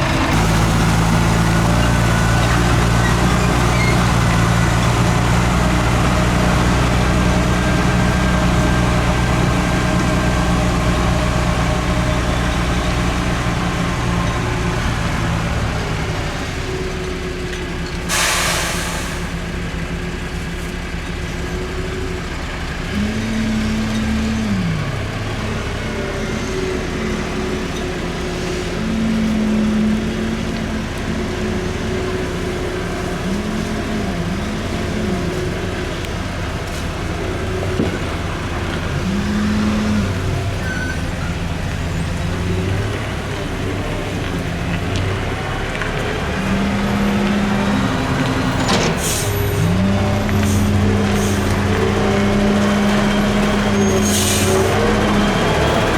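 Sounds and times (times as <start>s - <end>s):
diesel engine idling and revving: 0.0s - 55.9s.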